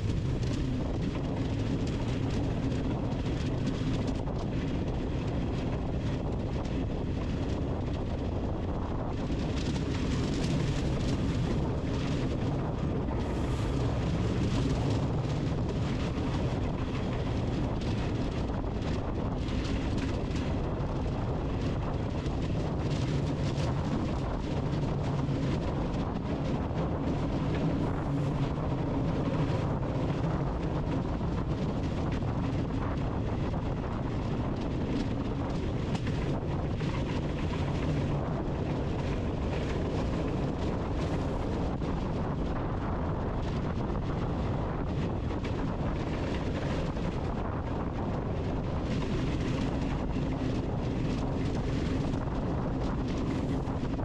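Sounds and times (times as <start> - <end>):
low wavering hum: 0.0 - 54.0
wind: 0.0 - 54.0.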